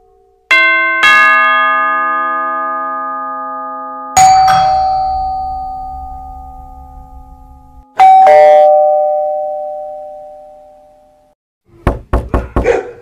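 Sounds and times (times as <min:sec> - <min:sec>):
doorbell chime: 0:00.5 - 0:11.4.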